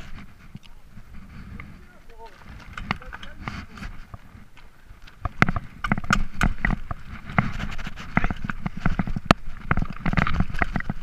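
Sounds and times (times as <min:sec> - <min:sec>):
mountain bike clattering over rocks: 0:01.4 - 0:11.0.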